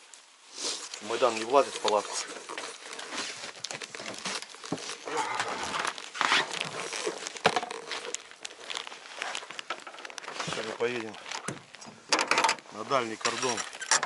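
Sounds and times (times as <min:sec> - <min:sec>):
clothing and gear rustling: 0:00.0 - 0:14.0.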